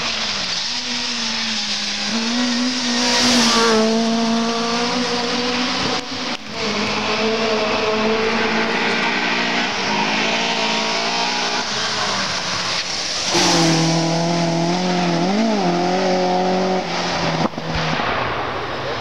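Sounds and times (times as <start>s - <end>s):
rally car engine running hard: 0.0s - 18.3s.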